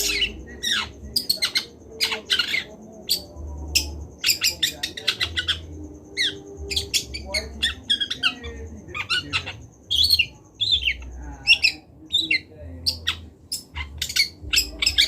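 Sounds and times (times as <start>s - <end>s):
bird chattering song: 0.0s - 15.0s.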